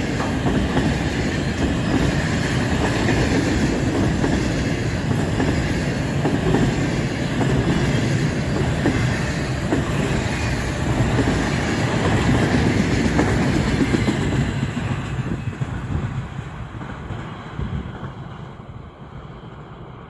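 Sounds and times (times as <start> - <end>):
freight train wheels clattering: 0.0 - 18.6.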